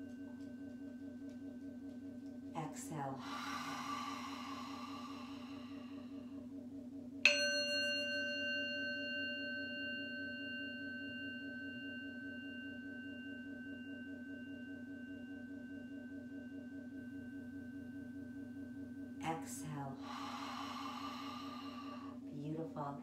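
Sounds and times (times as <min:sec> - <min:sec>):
singing bowl ringing: 0:00.0 - 0:23.0.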